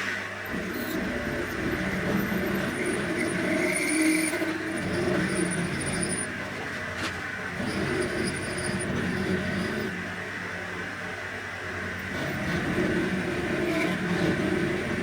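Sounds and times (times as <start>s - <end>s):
lathe motor running: 0.4s - 15.0s.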